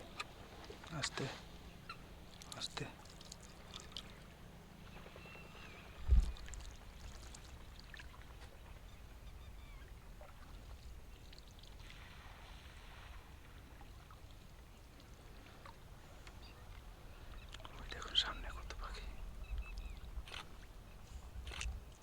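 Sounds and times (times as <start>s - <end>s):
water lapping and dripping: 0.0s - 22.0s.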